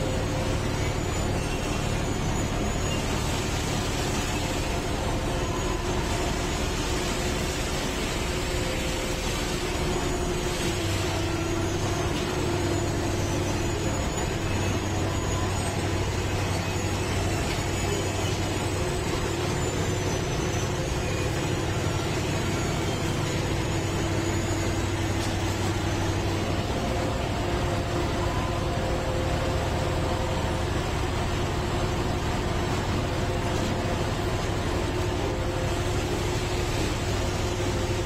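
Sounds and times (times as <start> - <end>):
track-laying machine running: 0.0 - 38.0.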